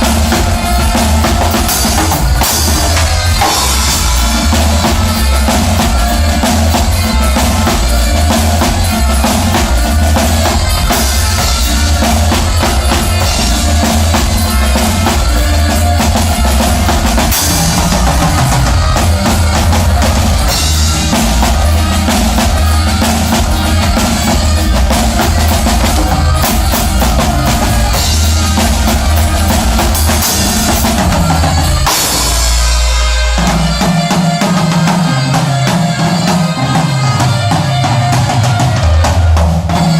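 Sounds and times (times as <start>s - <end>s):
band playing loud music: 0.0s - 39.9s
bass line: 0.0s - 39.9s
drum kit: 0.0s - 39.9s.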